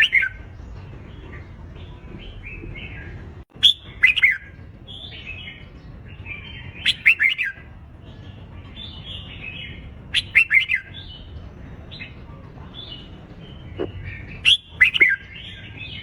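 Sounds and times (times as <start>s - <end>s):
soft bird warbling chatter: 0.0s - 16.0s.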